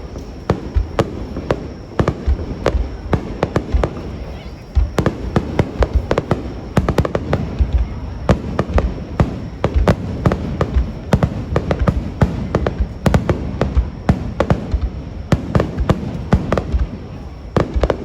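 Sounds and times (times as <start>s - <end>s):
deep rolling booms: 0.0s - 18.0s
fireworks sharp bangs: 0.0s - 18.0s.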